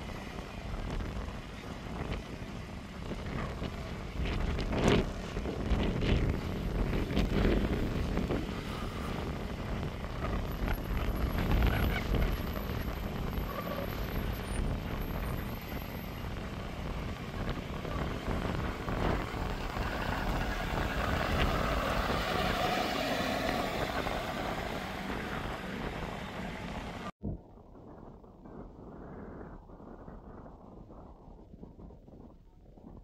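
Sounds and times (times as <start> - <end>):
fire truck engines running: 0.0 - 27.1
low rumble: 3.0 - 33.0.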